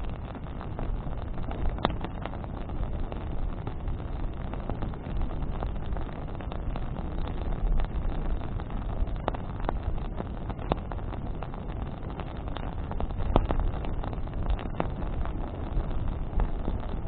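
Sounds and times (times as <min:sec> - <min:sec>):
bonfire wood crackling: 0:00.0 - 0:17.0
low fire rumble: 0:00.0 - 0:17.0.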